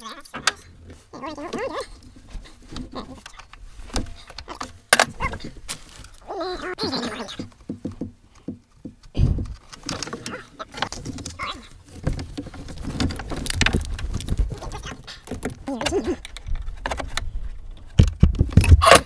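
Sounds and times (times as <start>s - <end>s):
clicks and knocks of parts handled: 0.2s - 6.3s, 7.4s - 19.0s.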